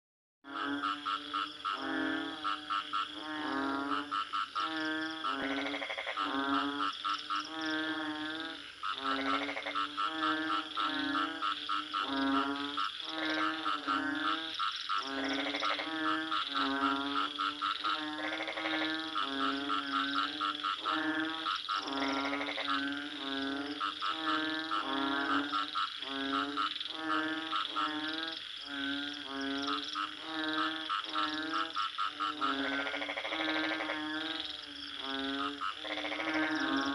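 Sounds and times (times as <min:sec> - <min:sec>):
frogs croaking: 0:00.4 - 0:36.9
longer higher frog call: 0:00.5 - 0:36.9.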